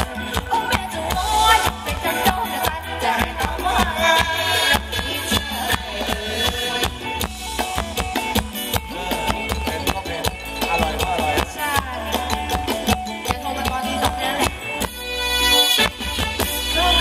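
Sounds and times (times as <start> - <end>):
live band playing dance music: 0.0 - 17.0
steady drum beat: 0.0 - 17.0.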